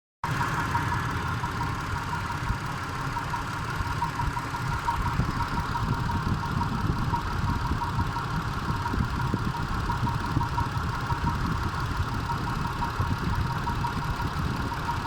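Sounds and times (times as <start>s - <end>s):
car engine running: 0.2s - 15.0s
regular engine knock: 0.2s - 15.0s.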